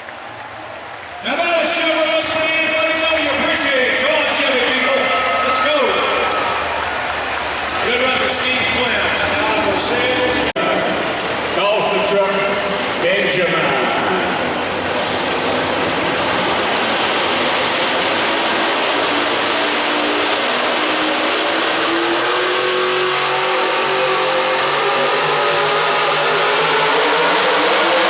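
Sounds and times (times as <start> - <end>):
engine revving under load: 1.0 - 28.0.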